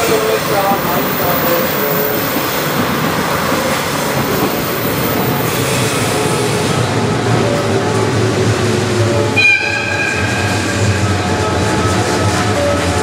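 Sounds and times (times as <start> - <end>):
deep train rumble: 0.0 - 13.0.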